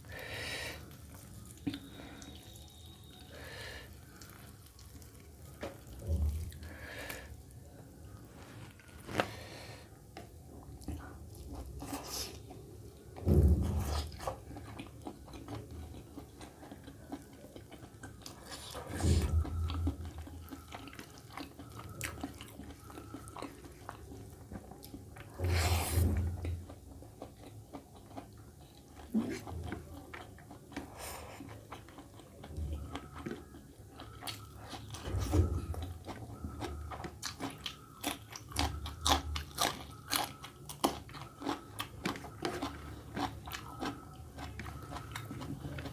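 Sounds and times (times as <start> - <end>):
person chewing and crunching: 0.0 - 45.9.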